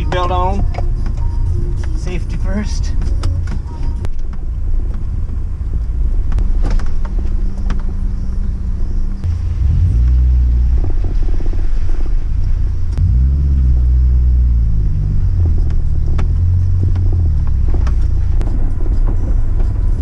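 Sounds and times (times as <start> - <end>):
engine and tyres rumbling: 0.0 - 20.0.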